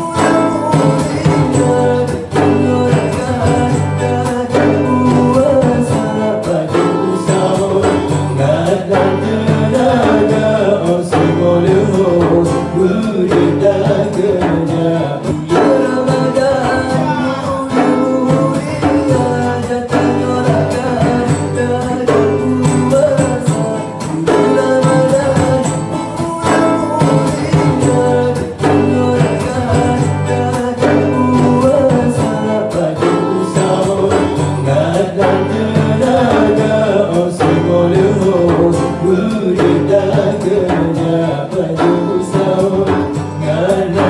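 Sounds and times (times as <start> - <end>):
frame drum: 0.0 - 44.0
men singing ornamented melody: 0.0 - 44.0
strummed acoustic guitars: 0.0 - 44.0.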